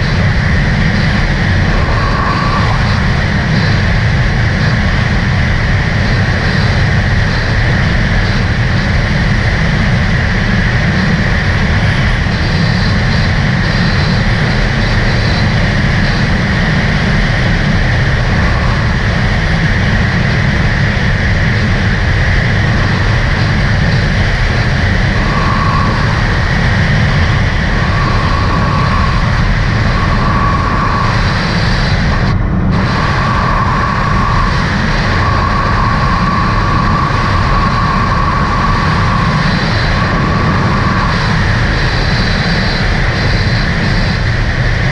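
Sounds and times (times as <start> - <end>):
personal watercraft engine running: 0.0 - 44.9.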